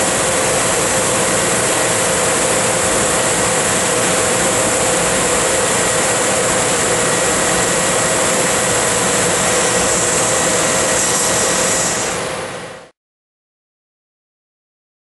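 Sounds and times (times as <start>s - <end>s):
laser cutter rushing hiss: 0.0s - 12.8s.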